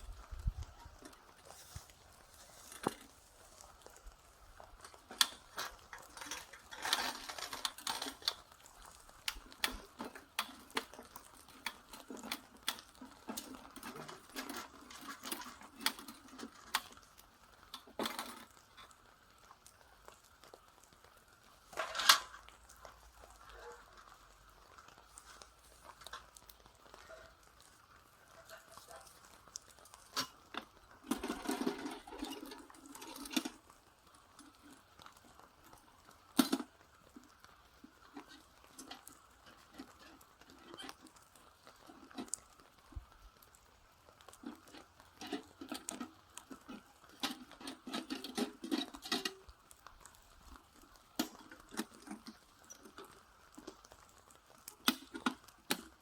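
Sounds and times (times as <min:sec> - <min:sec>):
rustling: 0:00.0 - 0:56.0.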